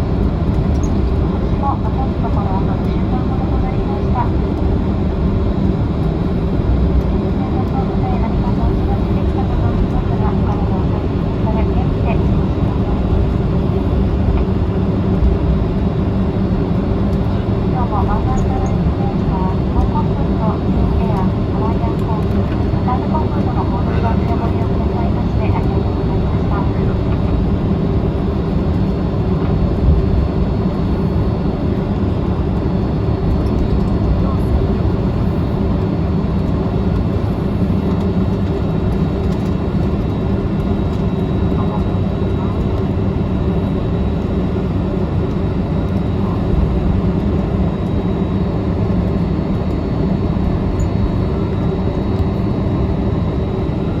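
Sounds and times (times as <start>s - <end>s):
jet airliner rumble: 0.0s - 54.0s.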